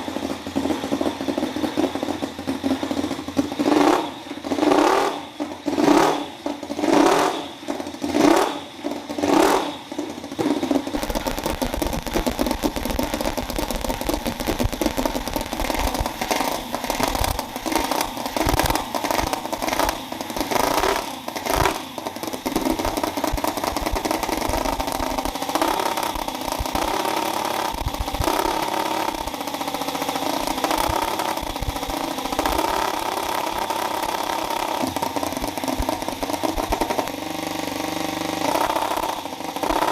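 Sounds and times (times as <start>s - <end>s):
small engine surging: 0.0s - 39.9s.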